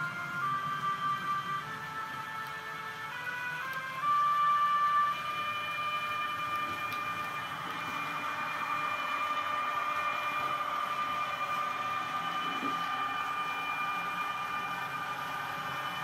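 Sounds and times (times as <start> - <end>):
model train high whine: 0.0 - 16.0.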